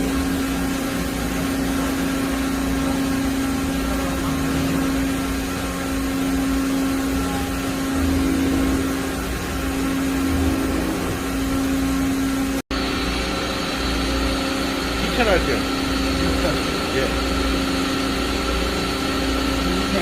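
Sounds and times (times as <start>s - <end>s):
machine hum with held tone: 0.0s - 20.0s.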